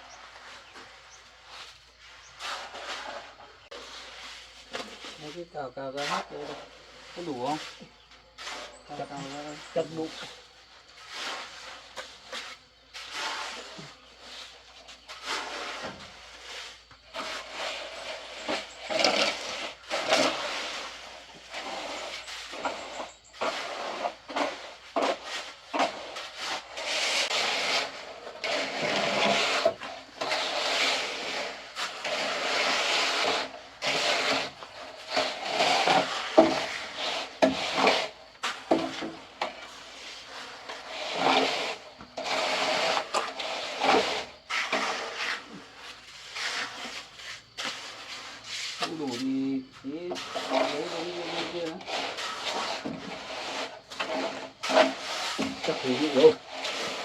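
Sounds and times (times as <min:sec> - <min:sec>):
rake and shovel scraping mortar: 0:00.0 - 0:57.0.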